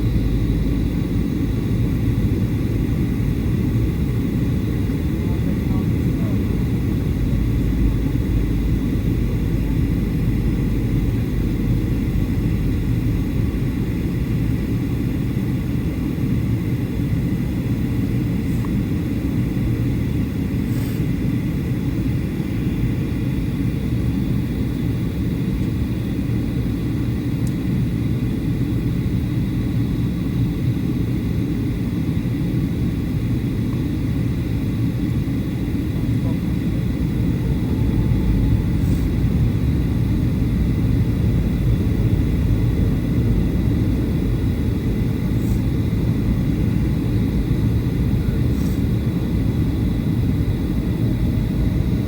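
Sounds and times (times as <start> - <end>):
airplane cabin engine rumble: 0.0 - 52.0.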